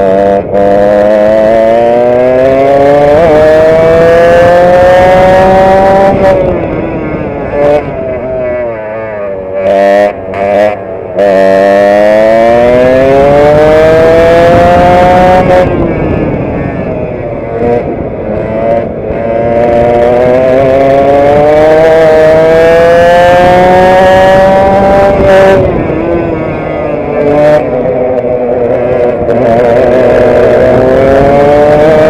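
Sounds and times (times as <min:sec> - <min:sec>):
kart engine at full throttle: 0:00.0 - 0:32.0.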